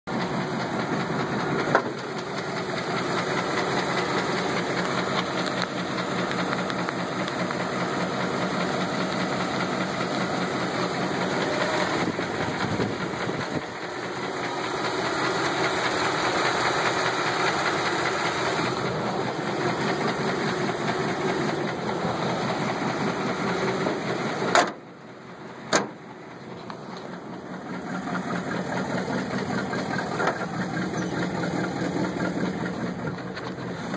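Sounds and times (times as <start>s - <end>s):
pickup engine with rhythmic knock: 0.1s - 33.9s.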